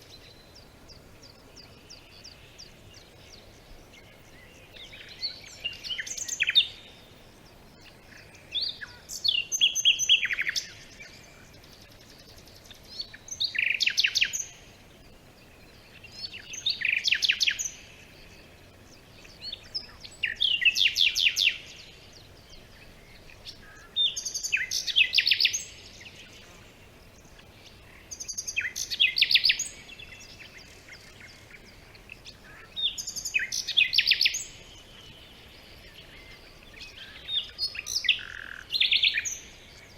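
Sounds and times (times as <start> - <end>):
faint background hiss: 0.0 - 39.9
songbird chirps and trills: 0.0 - 39.9.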